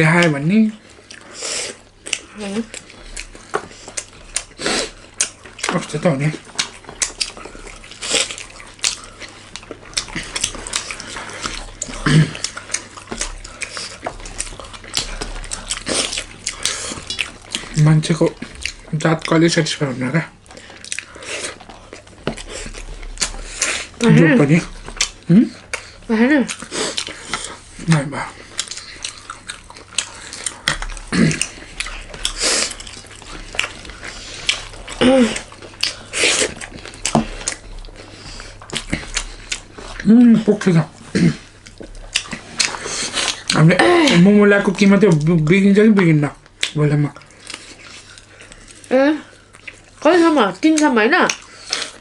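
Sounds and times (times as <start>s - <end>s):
chewing and lip smacking: 0.0s - 52.0s.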